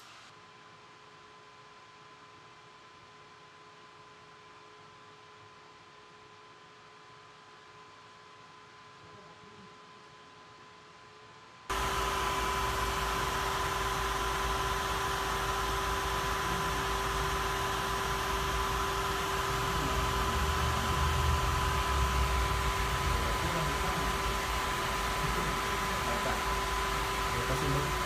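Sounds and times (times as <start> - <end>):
cooling fan whirring: 1.7 - 28.0.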